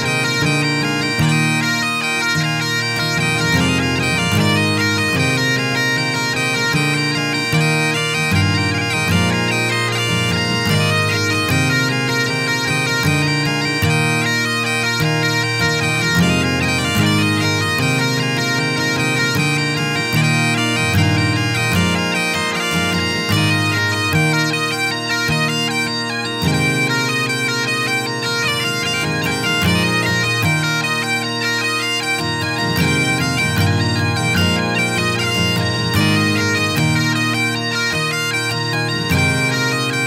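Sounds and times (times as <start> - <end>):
bagpipes playing a tune: 0.0 - 40.0.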